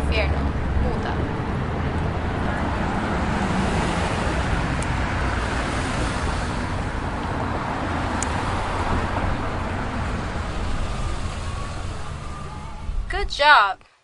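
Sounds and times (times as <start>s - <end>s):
road traffic rumble: 0.0s - 13.8s.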